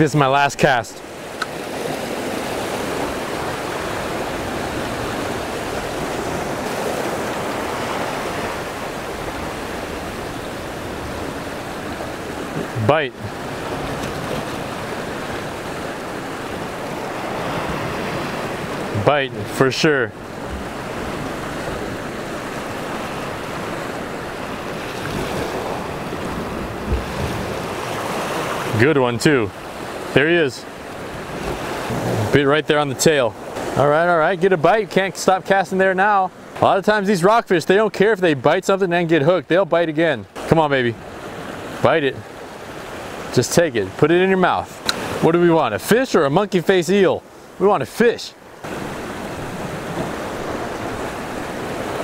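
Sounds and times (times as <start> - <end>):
ocean surf on rocks: 0.0 - 52.0.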